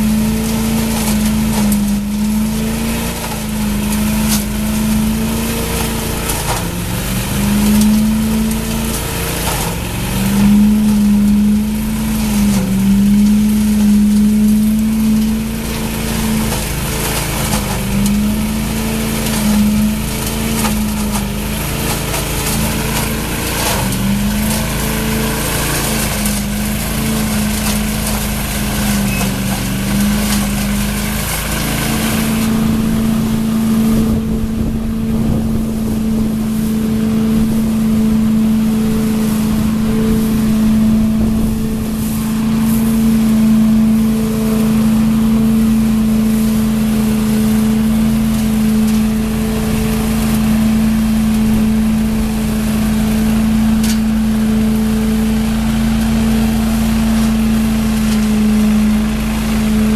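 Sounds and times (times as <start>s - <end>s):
debris rattling up a hose: 0.0s - 59.9s
leaf vacuum engine running: 0.0s - 59.9s.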